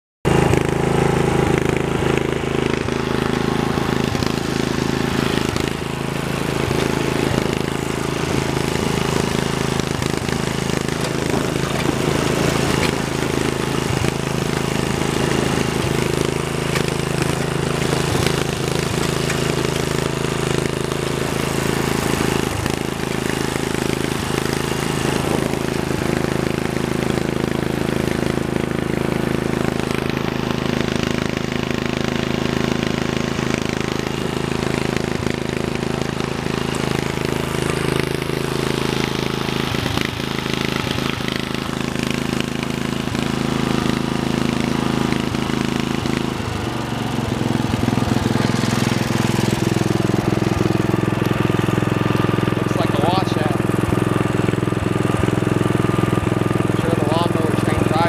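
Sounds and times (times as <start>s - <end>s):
riding mower engine running: 0.2s - 58.0s.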